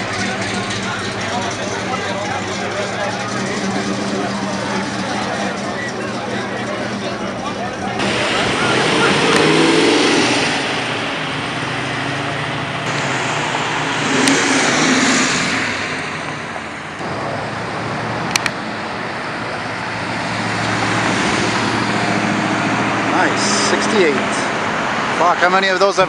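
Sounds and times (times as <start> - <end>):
cars driving past revving: 0.0 - 26.0.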